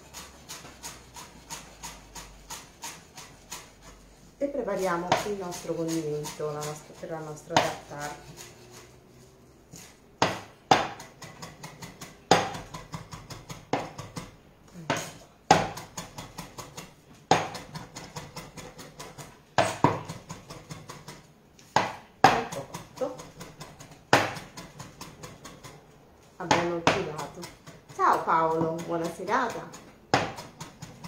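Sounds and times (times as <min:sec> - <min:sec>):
knife chopping on wooden board: 0:00.0 - 0:04.0, 0:04.8 - 0:08.9, 0:09.8 - 0:25.8, 0:26.4 - 0:31.0.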